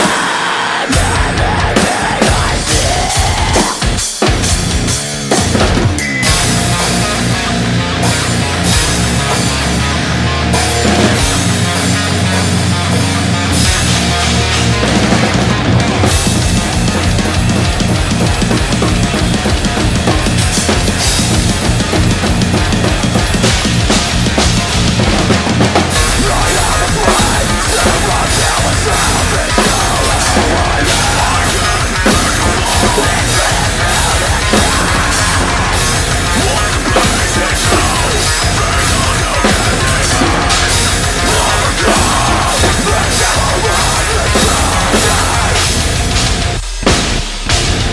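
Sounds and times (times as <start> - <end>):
drum kit played live: 0.0 - 47.9
metal song with distorted guitars: 0.0 - 47.9.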